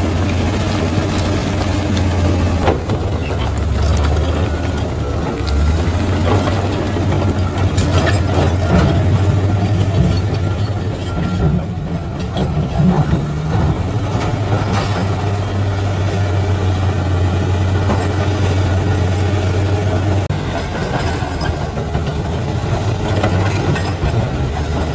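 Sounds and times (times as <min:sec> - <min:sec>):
bulldozer diesel engine droning: 0:00.0 - 0:24.9.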